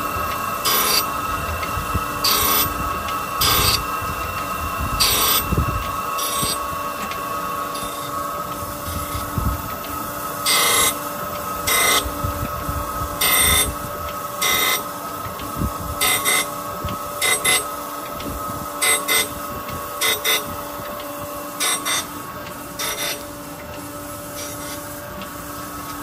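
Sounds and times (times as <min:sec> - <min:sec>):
grinder machine humming: 0:00.0 - 0:26.0.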